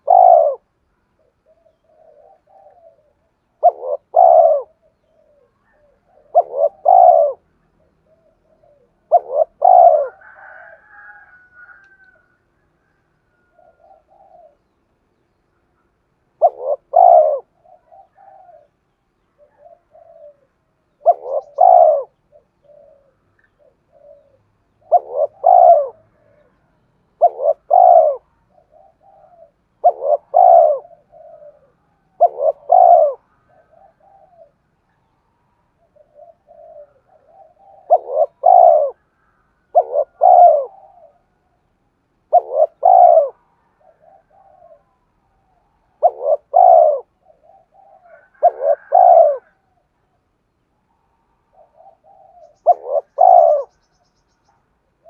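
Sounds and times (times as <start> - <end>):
dove cooing: 0.0 - 14.9, 15.7 - 50.3, 50.9 - 55.0.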